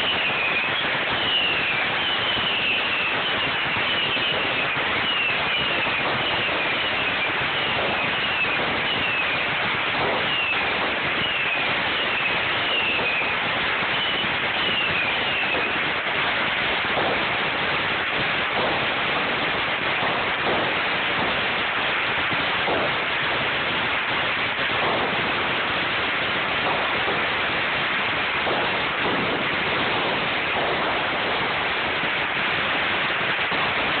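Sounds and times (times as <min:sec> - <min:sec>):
firecrackers crackling: 0:00.0 - 0:34.0.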